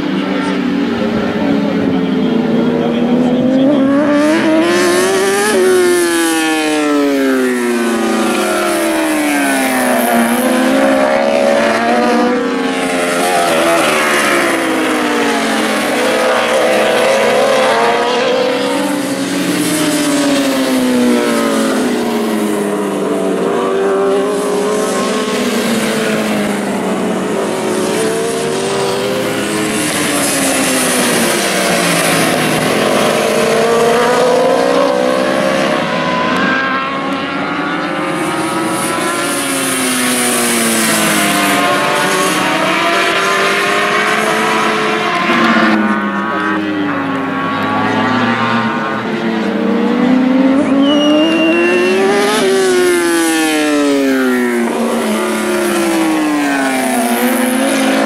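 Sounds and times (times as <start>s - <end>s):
motorcycles racing past at high revs: 0.0s - 58.0s.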